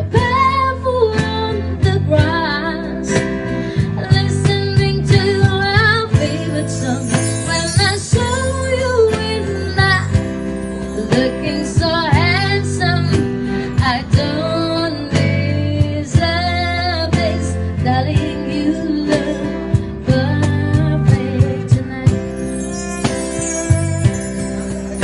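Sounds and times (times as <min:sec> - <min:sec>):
instrumental backing with guitar: 0:00.0 - 0:25.0.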